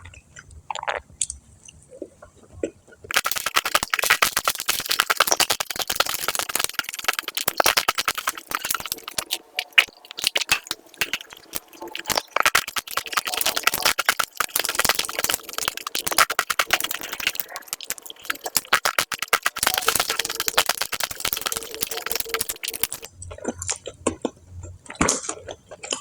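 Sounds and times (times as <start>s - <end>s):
crunching of crispy food: 3.1s - 26.0s.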